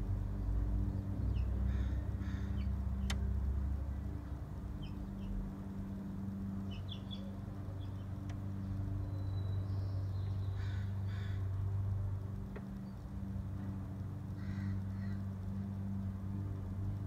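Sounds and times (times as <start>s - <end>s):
low mechanical hum: 0.0s - 17.0s
small birds chirping: 0.2s - 16.5s.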